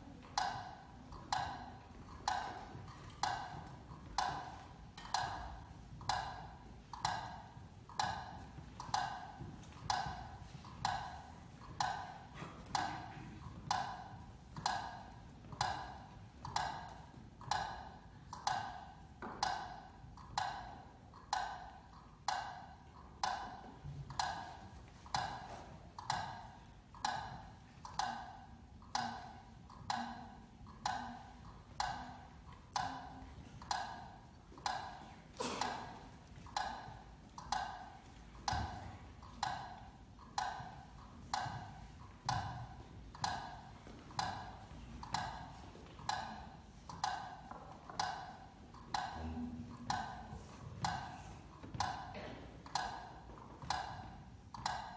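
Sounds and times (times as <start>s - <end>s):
clock ticking: 0.0s - 54.9s.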